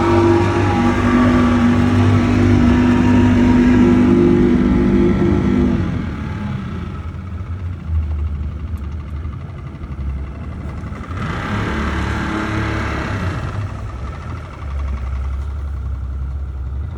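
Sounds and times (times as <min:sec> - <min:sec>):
engine running with low rumble: 0:00.0 - 0:16.9.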